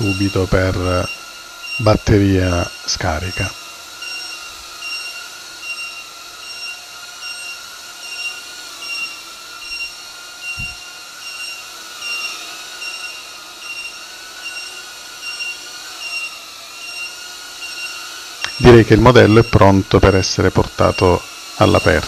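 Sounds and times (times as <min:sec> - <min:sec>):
low-battery alarm beeps: 0:00.0 - 0:20.0, 0:20.6 - 0:22.0
quadcopter propeller whine: 0:00.0 - 0:22.0.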